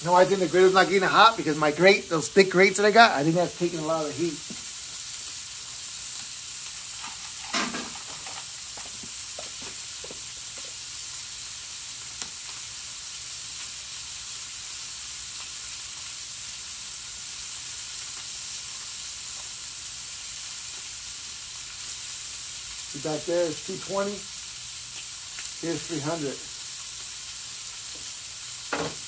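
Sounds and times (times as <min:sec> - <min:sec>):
steaks sizzling on a griddle: 0:00.0 - 0:29.0.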